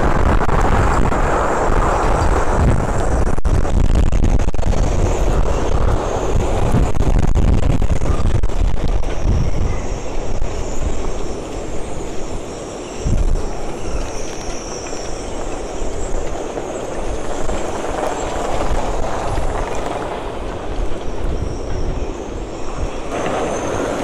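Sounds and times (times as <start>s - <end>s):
wind roaring and buffeting microphone: 0.0s - 24.0s
wind whistling in rigging: 0.0s - 24.0s.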